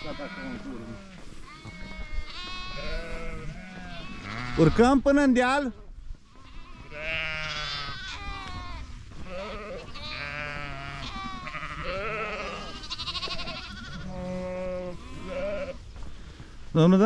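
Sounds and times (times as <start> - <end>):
sheep and lambs bleating: 0.0 - 5.0, 5.7 - 15.9.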